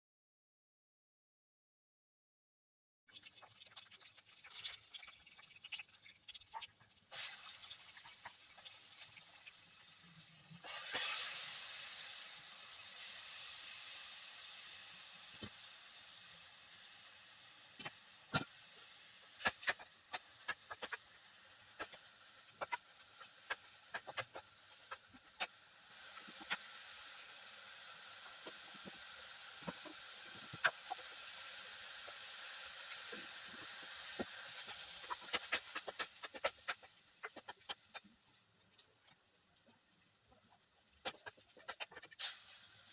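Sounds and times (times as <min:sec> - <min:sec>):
food sizzling in hot oil: 0:03.1 - 0:42.9.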